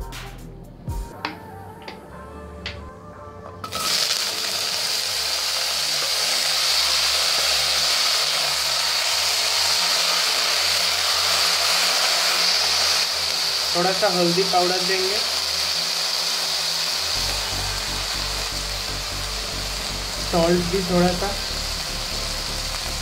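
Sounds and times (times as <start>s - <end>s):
potatoes sizzling in hot oil: 3.7s - 23.0s.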